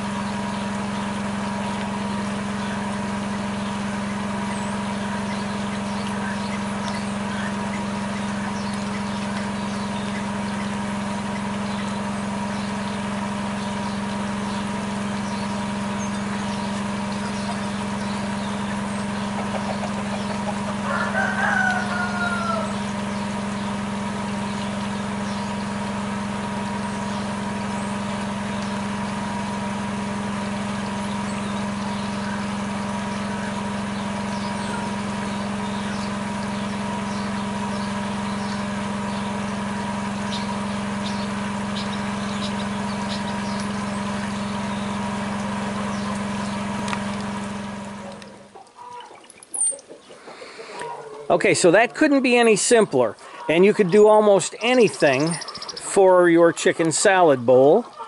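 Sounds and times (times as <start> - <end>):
chicken calling: 0.0 - 58.0
low mechanical hum: 0.0 - 58.0.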